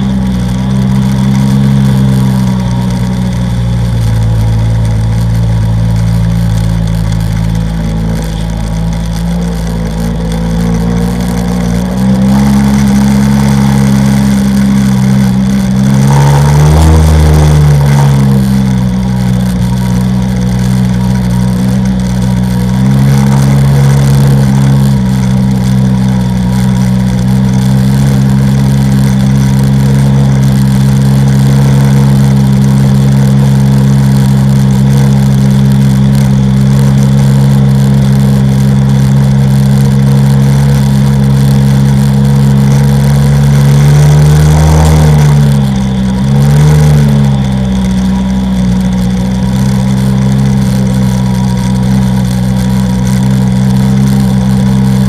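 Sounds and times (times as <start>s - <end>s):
personal watercraft engine running: 0.0s - 55.0s.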